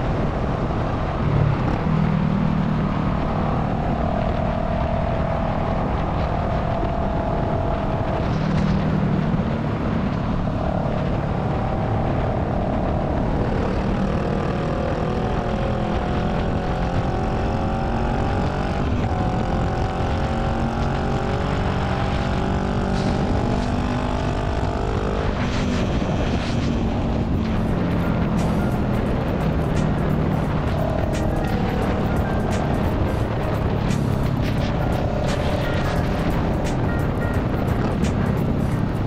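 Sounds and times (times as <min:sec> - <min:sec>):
motorcycle engine cruising: 0:00.0 - 0:39.0
wind noise: 0:00.0 - 0:39.0.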